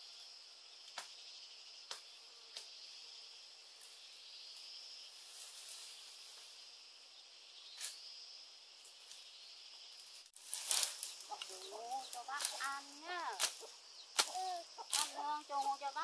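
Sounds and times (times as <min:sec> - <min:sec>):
insects chirring: 0:00.0 - 0:16.0
outdoor background hiss: 0:00.0 - 0:16.0.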